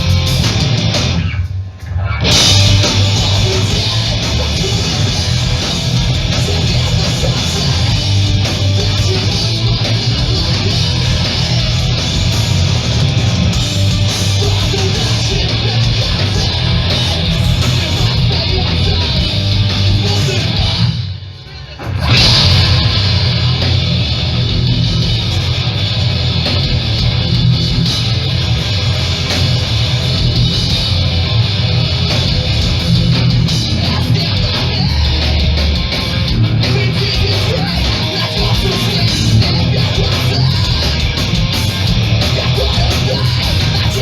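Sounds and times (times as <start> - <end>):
hardcore punk band playing live: 0.0 - 44.0.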